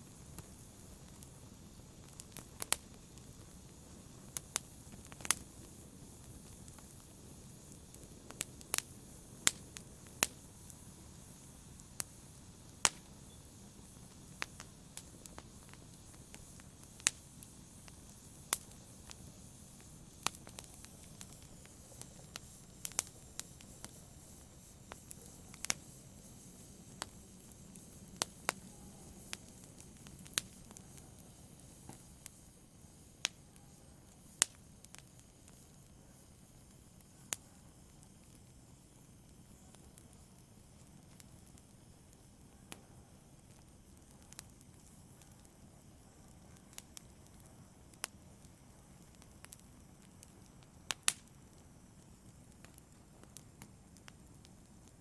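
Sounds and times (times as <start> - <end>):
fire crackling and popping: 0.0 - 55.0
wood fire hissing: 0.0 - 55.0.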